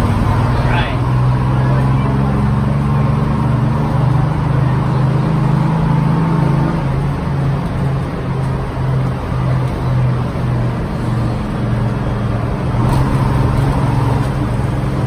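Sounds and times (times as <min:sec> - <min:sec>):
bus engine droning: 0:00.0 - 0:15.0
road noise: 0:00.0 - 0:15.0.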